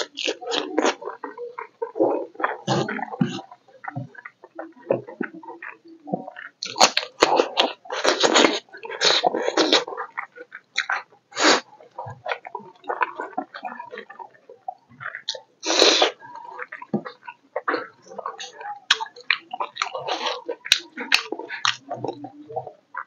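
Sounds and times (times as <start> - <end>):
man chewing food: 0.0 - 23.0
wet smacking and sucking: 0.0 - 23.0.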